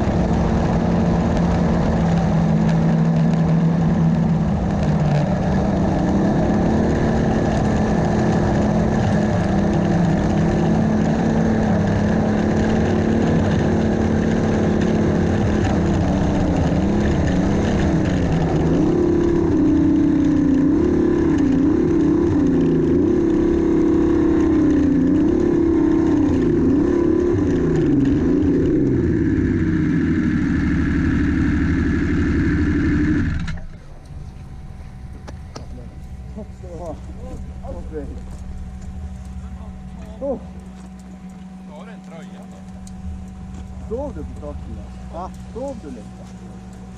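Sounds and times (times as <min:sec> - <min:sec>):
snowmobile engine revving: 0:00.0 - 0:46.9.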